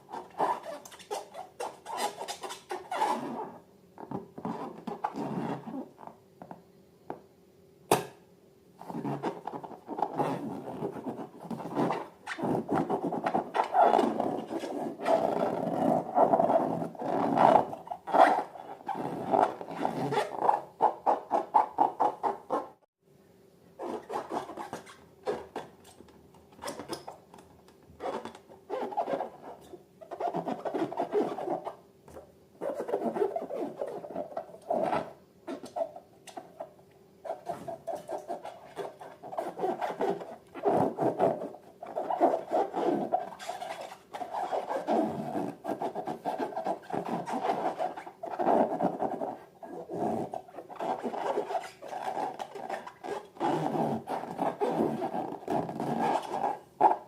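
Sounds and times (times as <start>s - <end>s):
squeaky rubbery balloon sounds: 0.0s - 6.2s, 8.8s - 22.8s, 23.8s - 27.2s, 28.0s - 57.0s.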